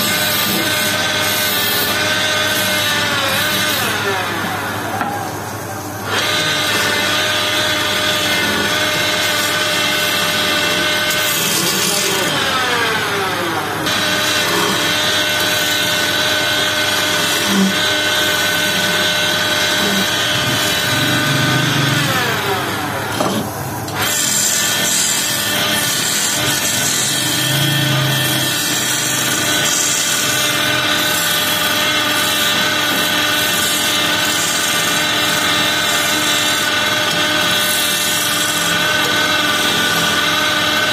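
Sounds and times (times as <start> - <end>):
wood lathe motor whine: 0.0 - 40.9
gouge scraping spinning wood: 6.1 - 13.2, 13.8 - 22.4, 23.1 - 40.9.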